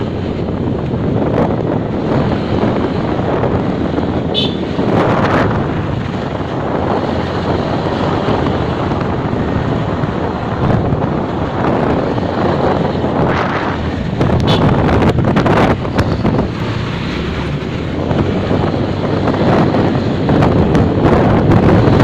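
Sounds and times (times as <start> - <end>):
motorcycle engine and road noise: 0.0 - 22.0
wind rushing over microphone: 0.0 - 22.0.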